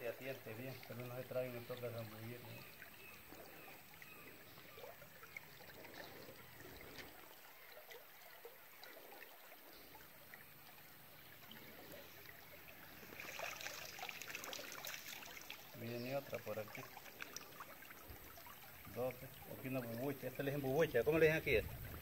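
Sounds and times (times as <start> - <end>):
river water trickling: 0.0 - 22.0
water splashing and pouring: 0.0 - 22.0.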